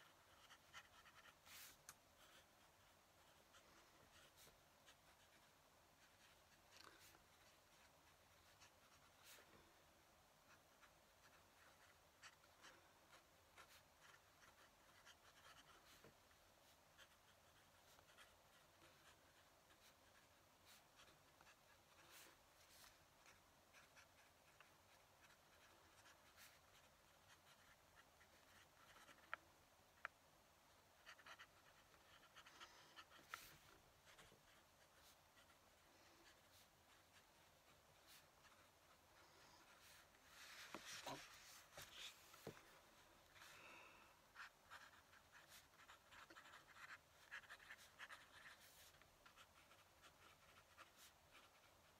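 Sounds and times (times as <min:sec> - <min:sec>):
pen nib scratching on paper: 0:00.0 - 0:09.6, 0:10.5 - 0:29.4, 0:30.9 - 0:42.6, 0:44.3 - 0:51.9.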